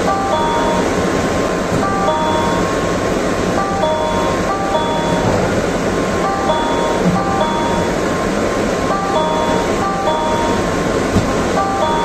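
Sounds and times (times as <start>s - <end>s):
electronic door chime: 0.0s - 12.0s
train running rumble and hiss: 0.0s - 12.0s.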